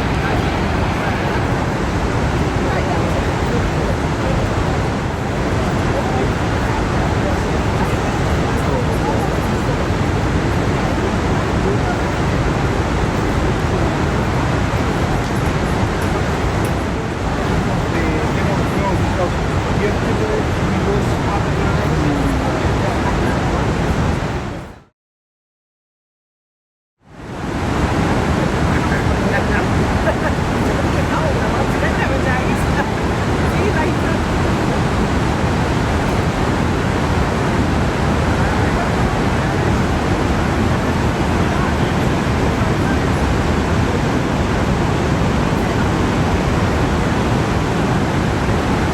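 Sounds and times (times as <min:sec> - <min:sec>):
waterfall roaring: 0:00.0 - 0:24.7, 0:27.2 - 0:48.9.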